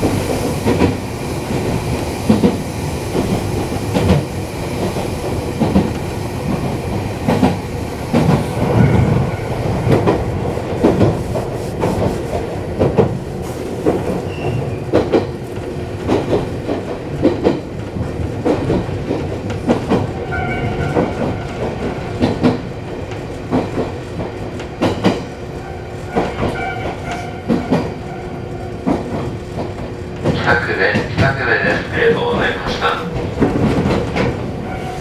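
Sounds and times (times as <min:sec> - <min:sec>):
electric train running hum: 0:00.0 - 0:35.0.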